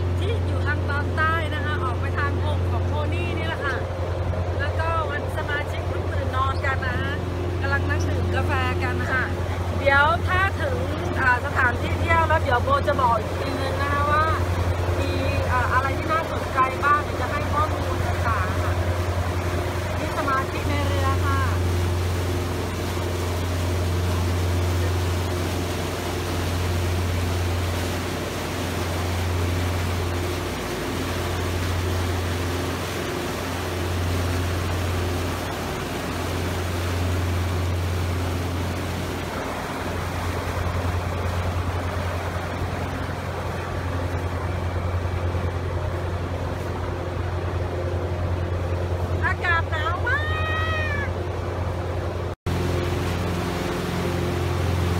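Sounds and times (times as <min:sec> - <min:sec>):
boat engines droning: 0:00.0 - 0:54.9
water rushing from wake: 0:00.0 - 0:54.9
wind: 0:00.0 - 0:54.9.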